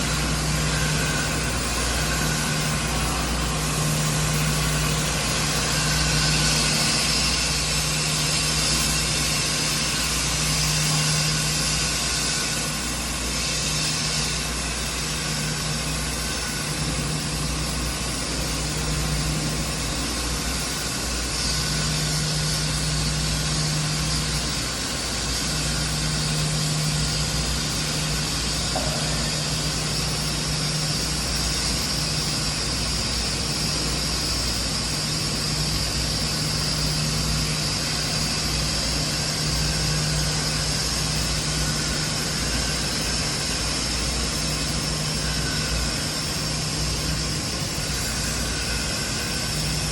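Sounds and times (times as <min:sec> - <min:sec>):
hiss: 0:00.0 - 0:49.9
machinery humming: 0:00.0 - 0:49.9.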